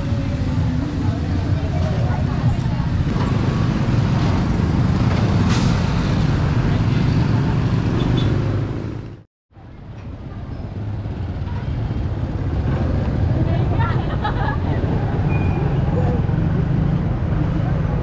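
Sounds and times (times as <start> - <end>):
passing vehicle engines rumbling: 0.0 - 18.0.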